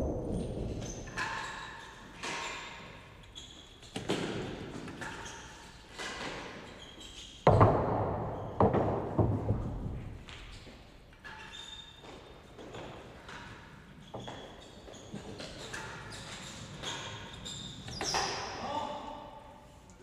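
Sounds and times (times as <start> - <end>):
ball bouncing off walls with echo: 0.0 - 18.6.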